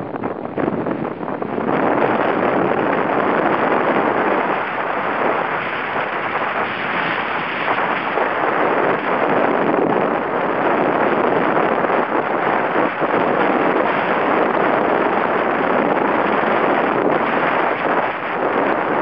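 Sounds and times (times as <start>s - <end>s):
gale-force wind buffeting microphone: 0.0s - 19.0s.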